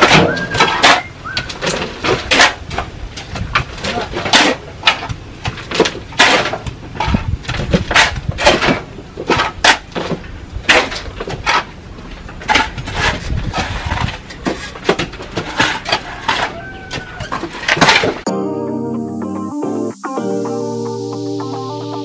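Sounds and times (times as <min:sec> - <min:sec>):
shovels and hoes chopping soil: 0:00.0 - 0:18.3.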